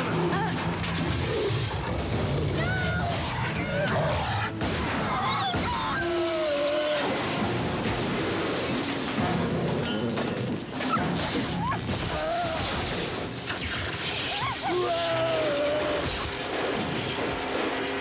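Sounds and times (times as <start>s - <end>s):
crashing and smashing effects: 0.0s - 18.0s.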